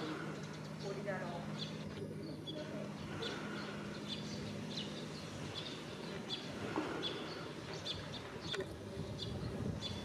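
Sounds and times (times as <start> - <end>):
outdoor background hum: 0.0 - 10.0
small birds chirping: 0.0 - 10.0.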